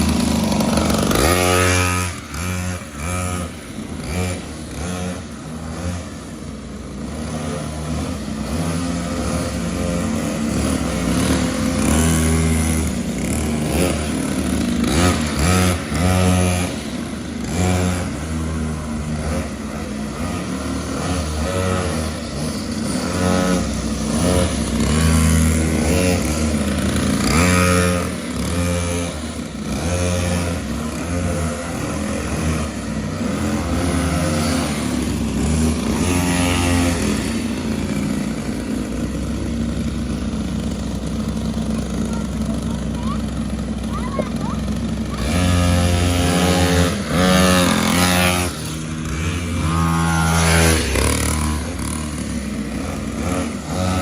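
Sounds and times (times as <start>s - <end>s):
mini motorcycle engine revving: 0.0s - 54.0s.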